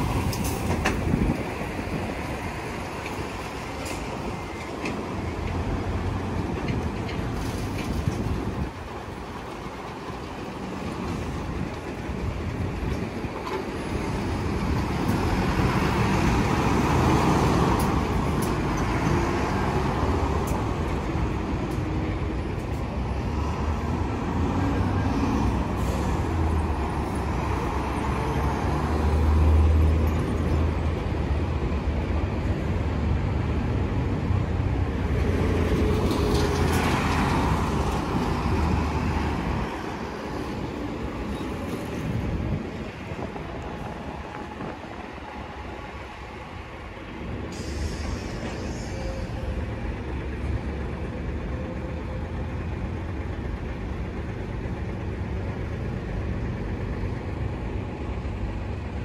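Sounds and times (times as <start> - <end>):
diesel trucks passing: 0.0 - 59.0.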